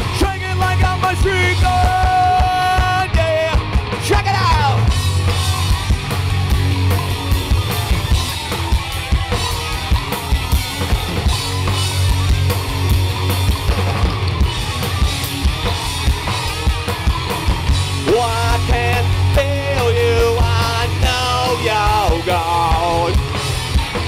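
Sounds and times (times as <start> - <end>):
drum kit steady beat: 0.0 - 24.0
heavy bass and guitar: 0.0 - 24.0.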